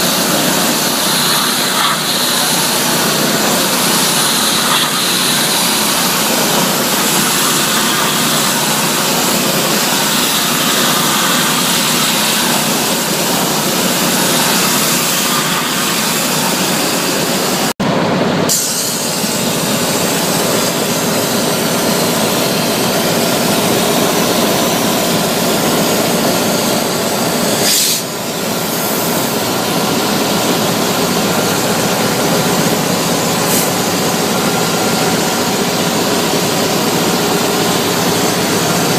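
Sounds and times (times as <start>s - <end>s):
loud steady rushing noise: 0.0s - 38.9s.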